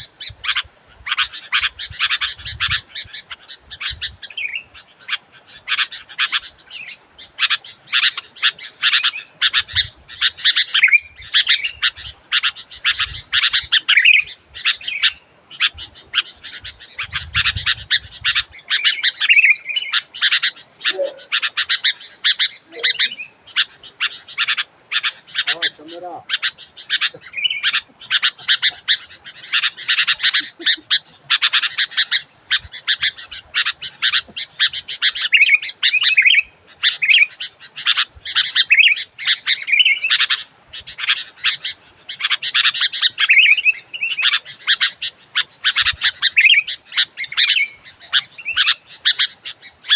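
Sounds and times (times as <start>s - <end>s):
bird chirping and warbling: 0.0s - 49.9s.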